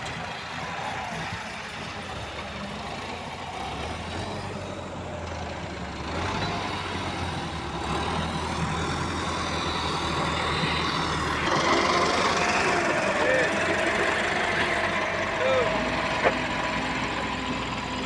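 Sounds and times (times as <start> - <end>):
tractor engine humming: 0.0 - 18.0.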